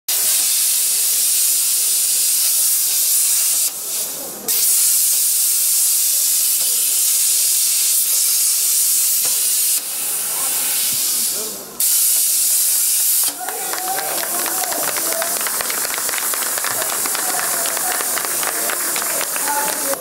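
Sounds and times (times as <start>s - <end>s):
cutting torch hissing: 0.1s - 20.0s.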